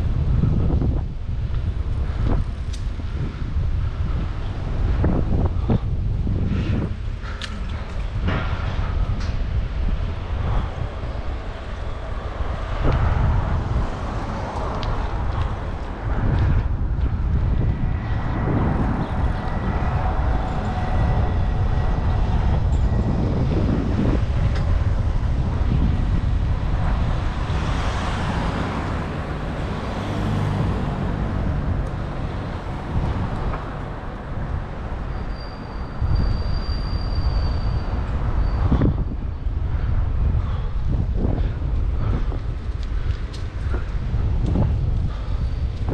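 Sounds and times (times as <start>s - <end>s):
road traffic noise: 0.0s - 45.9s
wind rushing over microphone: 0.0s - 45.9s.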